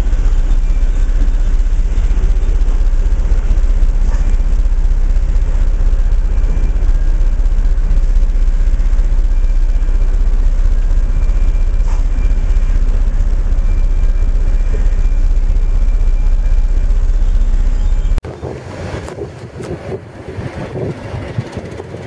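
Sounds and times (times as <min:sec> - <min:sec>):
locomotive engine idling: 0:00.0 - 0:22.0.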